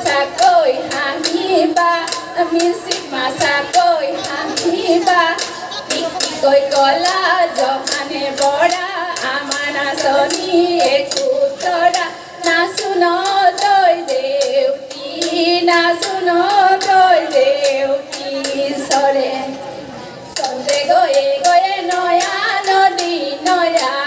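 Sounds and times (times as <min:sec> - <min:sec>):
women singing: 0:00.0 - 0:24.0.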